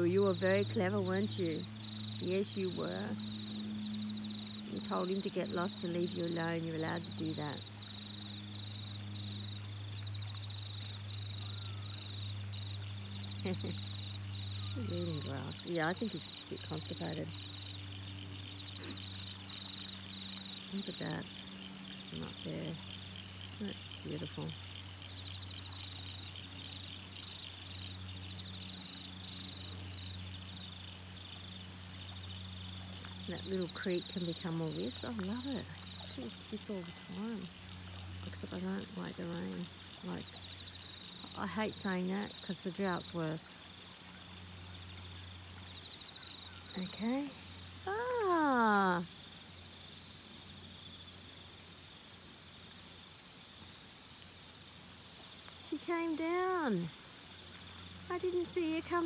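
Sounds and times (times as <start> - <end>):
faint hiss: 0.0 - 59.0
insects trilling: 0.0 - 59.0.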